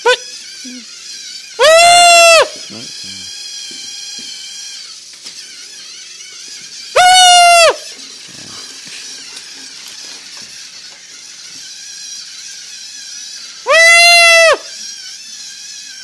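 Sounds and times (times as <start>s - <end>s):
robot motors whirring: 0.0s - 16.0s.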